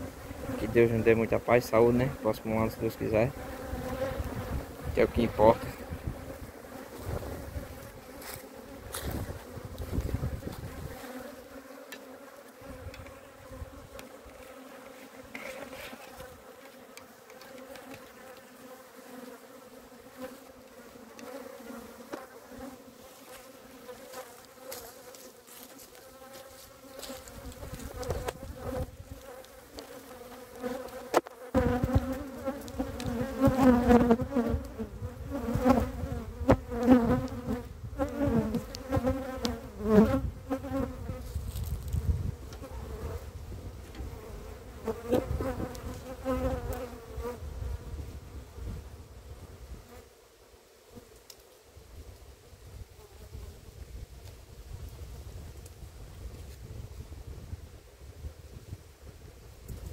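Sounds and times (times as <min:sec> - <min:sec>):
bees buzzing: 0:00.0 - 0:41.4, 0:42.0 - 0:50.2.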